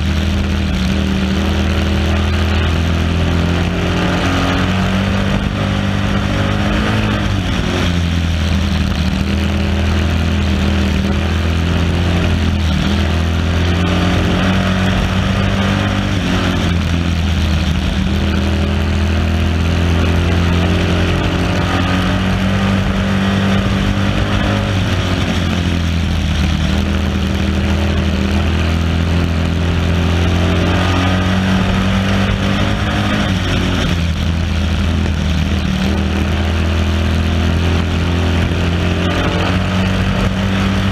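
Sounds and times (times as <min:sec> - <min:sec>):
race car engine running hard: 0:00.0 - 0:40.9
wind and road noise: 0:00.0 - 0:40.9.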